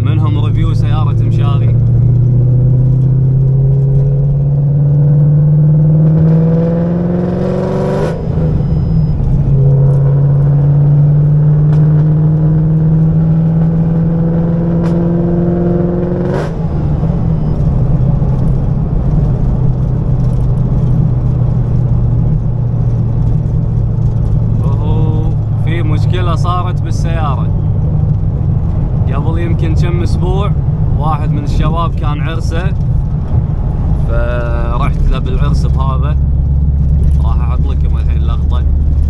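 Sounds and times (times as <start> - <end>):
car engine shifting gears: 0.0 - 39.0.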